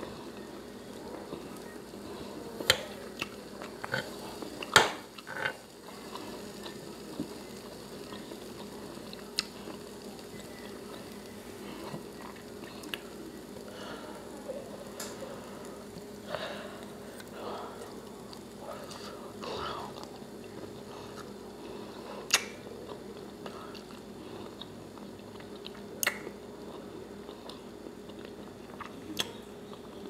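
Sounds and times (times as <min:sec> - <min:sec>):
chewing: 0:00.1 - 0:13.2, 0:17.1 - 0:30.0.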